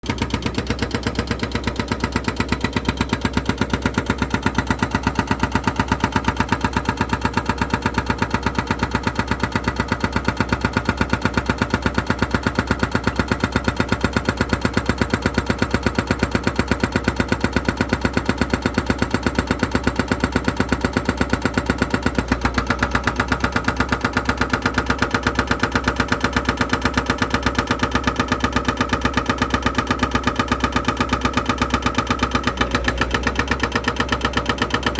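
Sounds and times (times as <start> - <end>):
engine idling with pulsing beat: 0.0 - 34.9.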